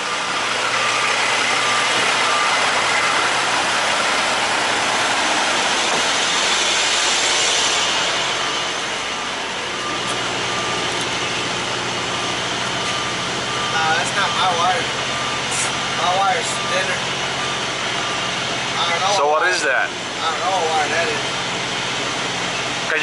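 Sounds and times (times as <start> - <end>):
truck diesel engine idling: 0.0 - 23.0.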